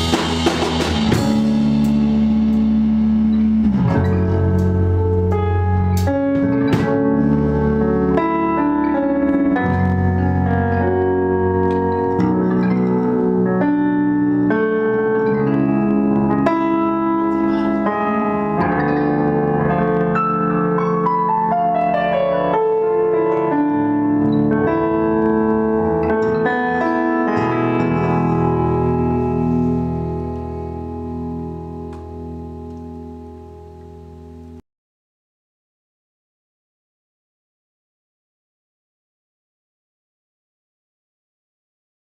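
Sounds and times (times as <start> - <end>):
keyboard piano-like chords: 0.0 - 34.6
rock band playing: 0.0 - 34.6.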